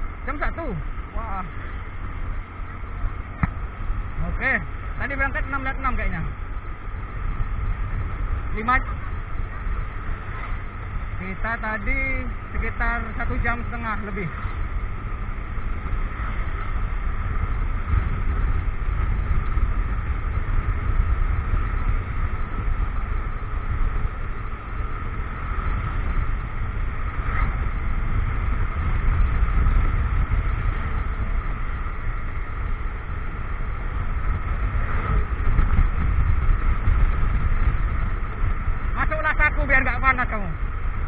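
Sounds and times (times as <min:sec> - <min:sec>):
motorcycle engine running: 0:00.0 - 0:41.0
wind buffeting microphone: 0:00.0 - 0:41.0.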